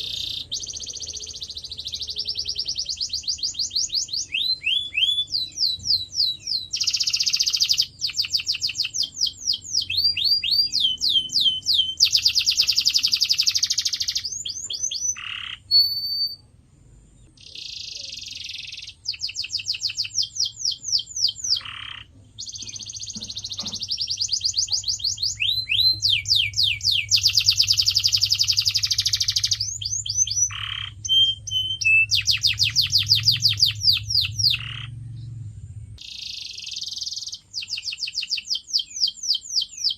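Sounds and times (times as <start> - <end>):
faint low hum: 0.0 - 37.6
canary singing: 0.0 - 39.9.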